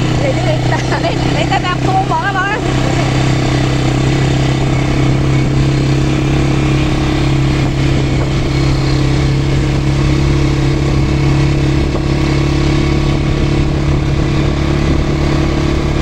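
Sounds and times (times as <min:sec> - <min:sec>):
quad bike engine running: 0:00.0 - 0:16.0.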